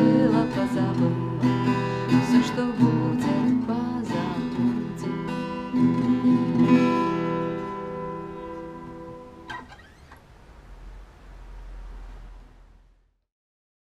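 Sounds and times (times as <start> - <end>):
acoustic guitar strumming: 0.0 - 12.6.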